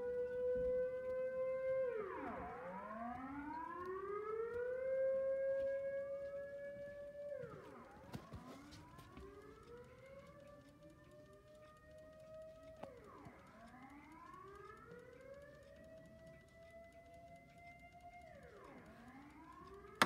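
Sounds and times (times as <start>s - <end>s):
wailing warning siren: 0.0s - 20.0s.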